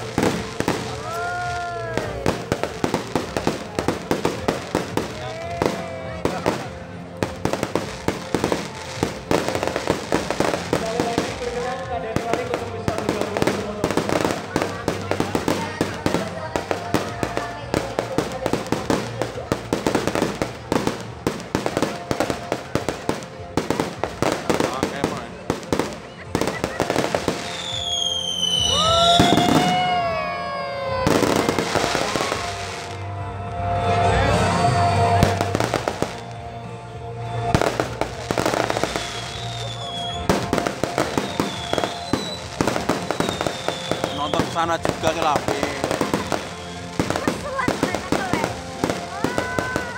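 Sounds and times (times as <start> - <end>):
fireworks bangs and crackles: 0.0 - 33.1, 33.7 - 49.9
music: 0.0 - 49.9.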